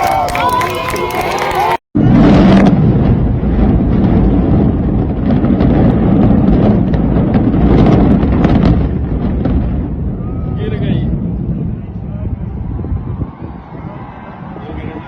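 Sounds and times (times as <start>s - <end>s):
building collapse rumble: 0.0s - 15.0s
wind buffeting microphone: 0.0s - 15.0s.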